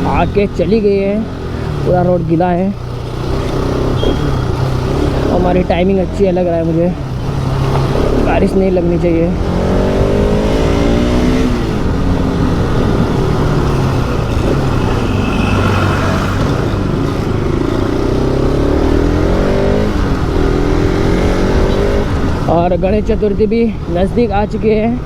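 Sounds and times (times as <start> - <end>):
motorcycle engine revving: 0.0 - 25.0
road and wind noise: 0.0 - 25.0.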